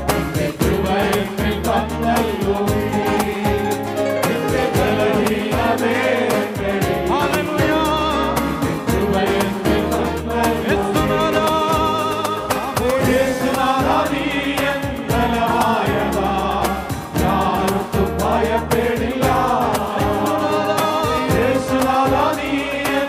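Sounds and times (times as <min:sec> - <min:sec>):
band playing: 0:00.0 - 0:23.0
bass: 0:00.0 - 0:23.0
group singing worship song: 0:00.0 - 0:23.0
steady drum beat: 0:00.0 - 0:23.0.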